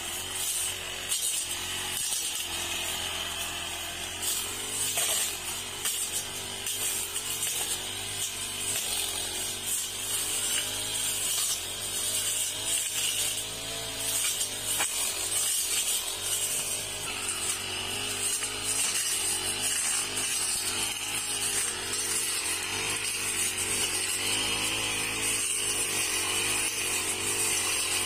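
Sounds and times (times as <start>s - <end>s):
brush cutter engine running: 0.0s - 28.0s.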